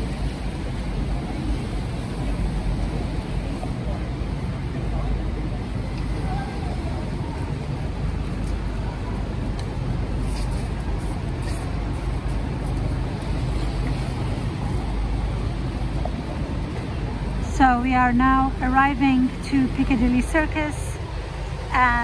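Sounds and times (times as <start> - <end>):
traffic on wet road: 0.0 - 22.0.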